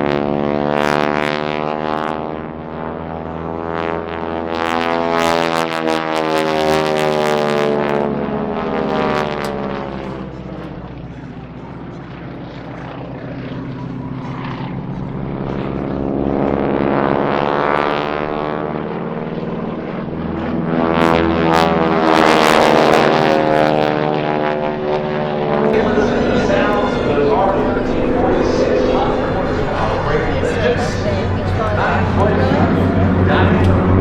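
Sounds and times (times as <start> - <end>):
propeller planes flying past: 0.0 - 34.0.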